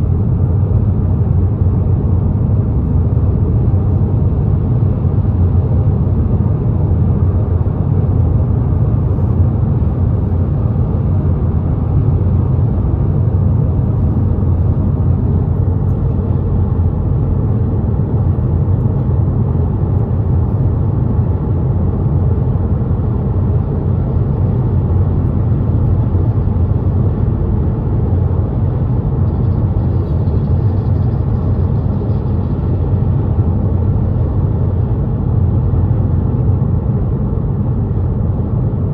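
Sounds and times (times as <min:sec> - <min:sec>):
car driving on highway: 0:00.0 - 0:38.9.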